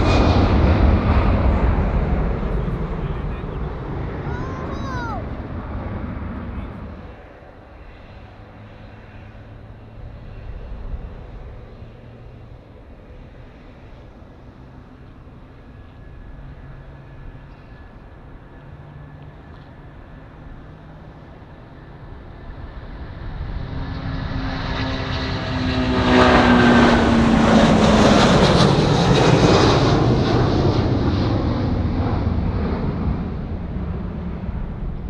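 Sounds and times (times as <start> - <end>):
airplane engines passing: 0.0 - 35.0.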